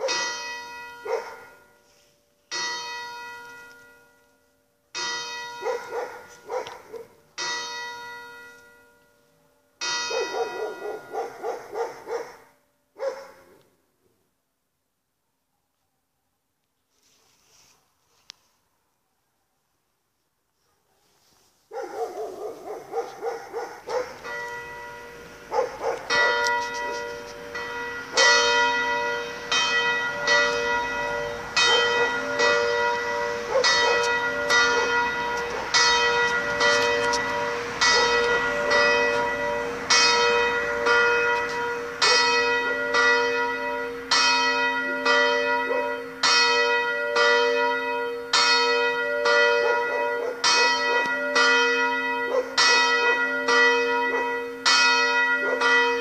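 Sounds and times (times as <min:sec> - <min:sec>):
church bells ringing: 0:00.0 - 0:13.1, 0:21.7 - 0:56.0.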